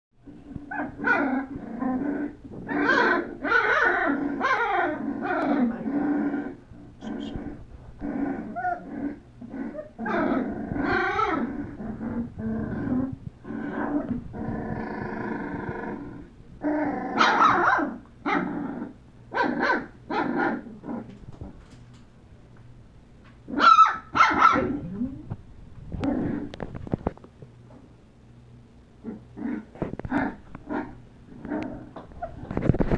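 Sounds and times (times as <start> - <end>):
puppies growling and yipping: 0.3 - 21.6, 23.5 - 26.8, 29.0 - 32.9.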